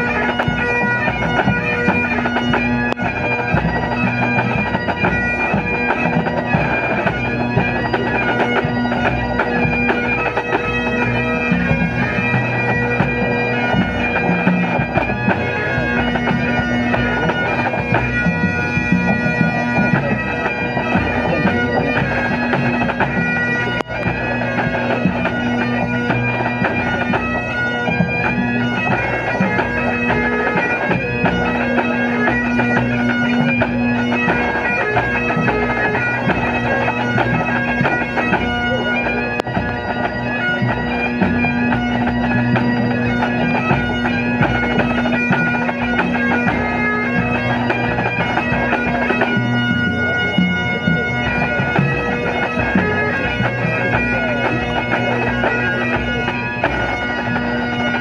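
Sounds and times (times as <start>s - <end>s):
bagpipes playing: 0.0s - 58.0s
marching drums: 0.0s - 58.0s.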